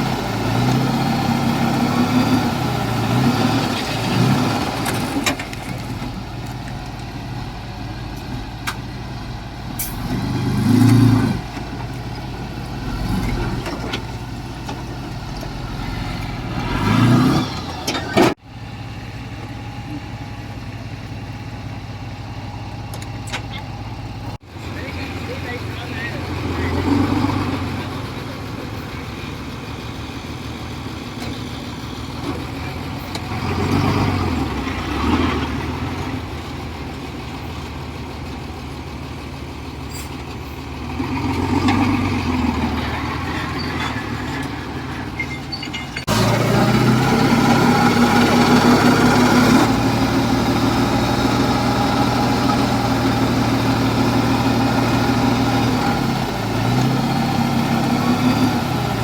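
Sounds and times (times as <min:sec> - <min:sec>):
heavy diesel engines revving: 0:00.0 - 0:20.8, 0:21.6 - 0:59.0.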